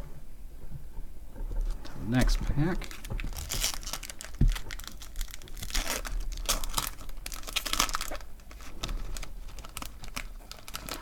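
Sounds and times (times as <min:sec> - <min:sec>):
foil pack crinkling: 0:01.6 - 0:11.0.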